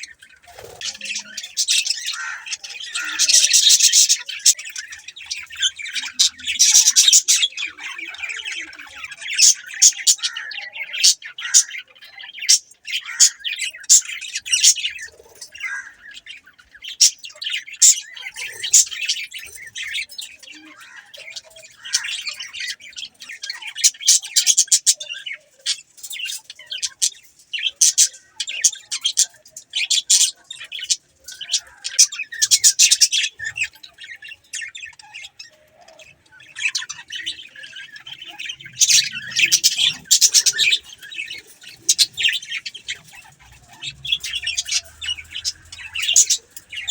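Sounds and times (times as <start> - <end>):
budgerigars chirping: 0.0 - 46.9.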